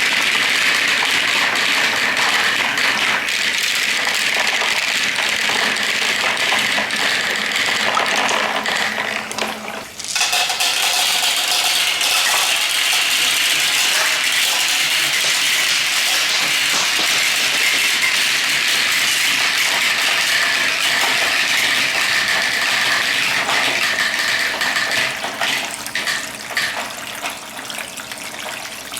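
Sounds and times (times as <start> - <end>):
water rushing down plastic slide: 0.0 - 28.2.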